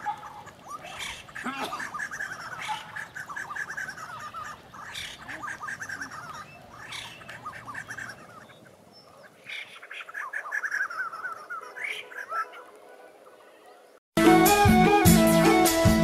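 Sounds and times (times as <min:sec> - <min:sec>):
birds chattering calls: 0:00.0 - 0:14.0.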